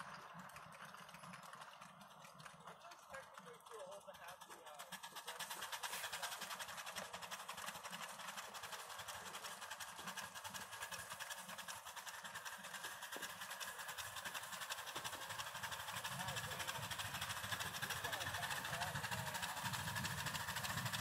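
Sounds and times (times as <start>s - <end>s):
steam locomotive chuffing: 0.0s - 21.0s.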